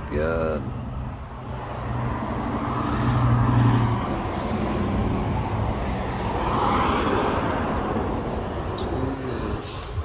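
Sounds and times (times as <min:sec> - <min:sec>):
road noise rushing: 0:00.0 - 0:10.0
vehicle engine hum: 0:00.0 - 0:10.0.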